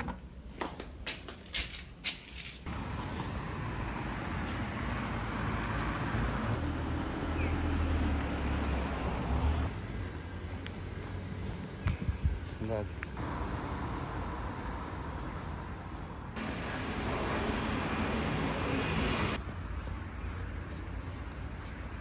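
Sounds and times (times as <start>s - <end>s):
motor vehicle rumble and road noise: 0.0s - 22.0s.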